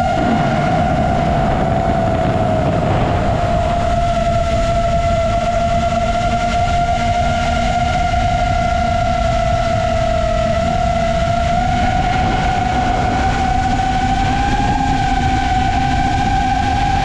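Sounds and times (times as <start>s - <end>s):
drone motors whining: 0.0s - 17.0s
low rushing noise: 0.0s - 17.0s.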